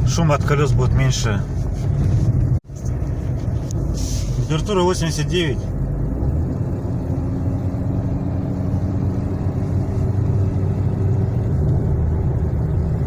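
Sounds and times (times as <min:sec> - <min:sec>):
car engine under load: 0:00.0 - 0:13.0
tyre and road noise: 0:00.0 - 0:13.0.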